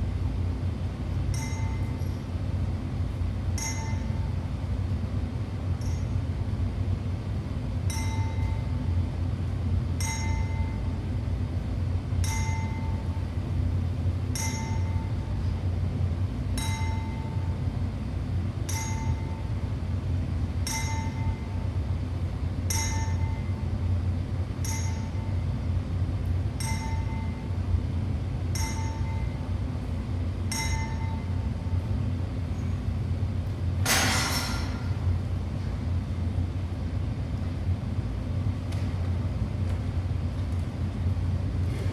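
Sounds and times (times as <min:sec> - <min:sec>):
steady low rumbling: 0:00.0 - 0:41.9.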